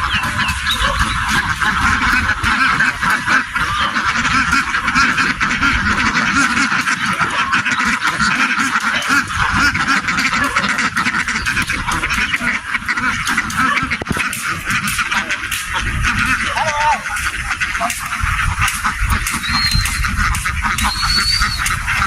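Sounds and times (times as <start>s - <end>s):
flock of ducks quacking: 0.0s - 22.0s.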